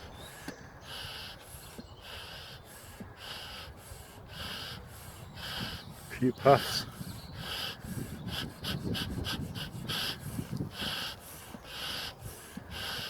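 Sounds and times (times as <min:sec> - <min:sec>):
bellows puffing air: 0:00.0 - 0:13.0.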